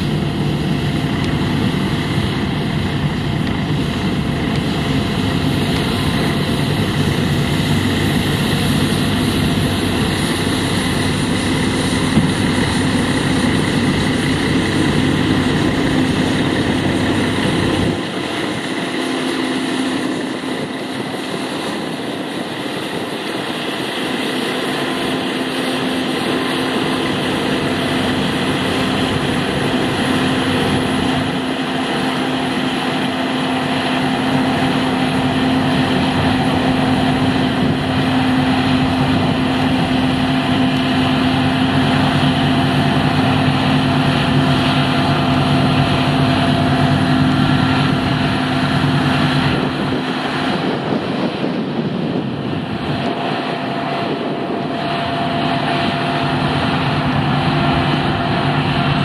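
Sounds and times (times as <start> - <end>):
combine harvester droning: 0.0 - 59.0
lorry engine running: 0.0 - 59.0.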